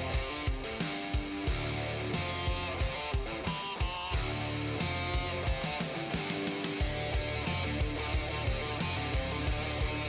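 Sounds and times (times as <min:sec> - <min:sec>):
bass guitar: 0:00.0 - 0:10.0
steady drum beat: 0:00.0 - 0:10.0
strummed electric guitar: 0:00.0 - 0:10.0.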